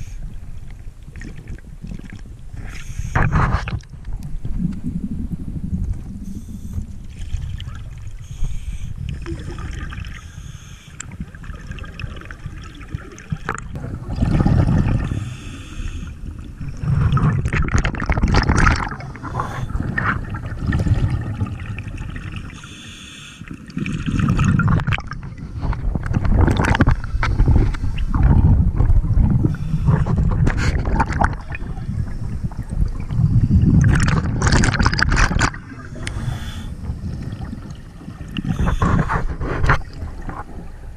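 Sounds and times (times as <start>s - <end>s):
low rumble of moving water: 0.0s - 40.9s
regulator bubbles gurgling underwater: 0.0s - 40.9s.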